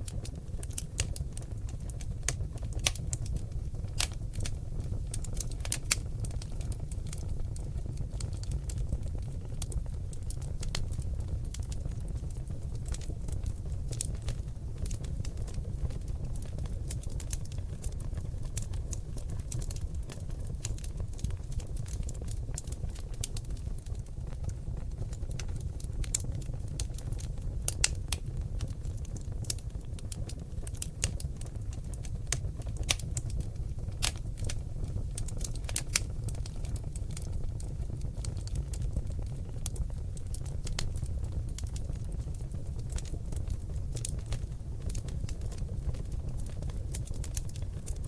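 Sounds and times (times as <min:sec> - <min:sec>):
fire crackling and popping: 0:00.0 - 0:48.0
low sound of burning flames: 0:00.0 - 0:48.0.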